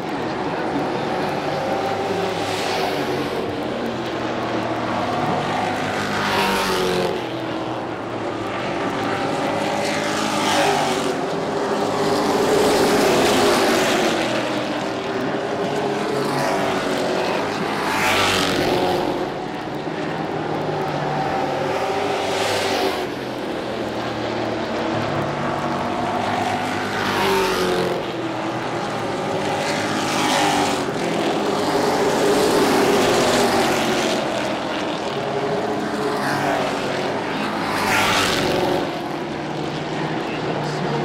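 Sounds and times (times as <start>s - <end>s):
race truck engines passing: 0.0s - 41.0s.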